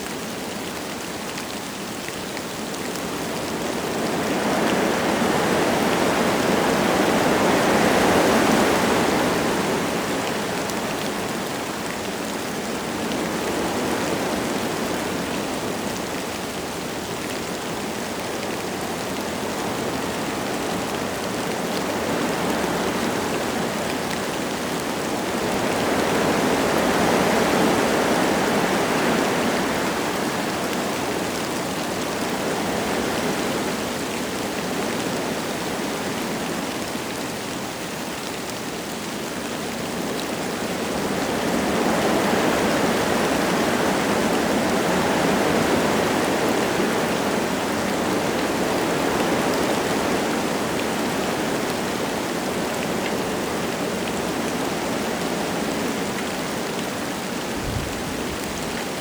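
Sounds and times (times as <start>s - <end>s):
light rain falling: 0.0s - 59.0s
wind gusting through trees: 0.0s - 59.0s.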